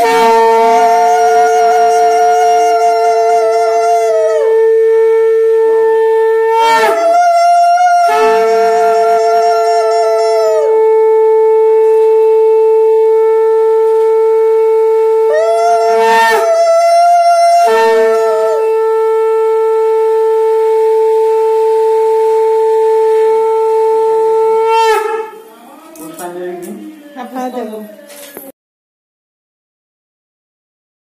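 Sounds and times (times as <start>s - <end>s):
conch shells blown: 0.0s - 27.2s.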